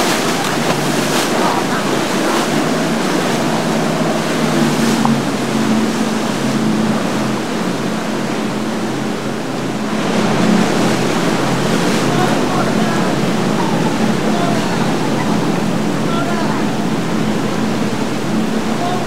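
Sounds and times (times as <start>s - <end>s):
boat engines droning: 0.0s - 19.0s
surf and rushing water: 0.0s - 19.0s.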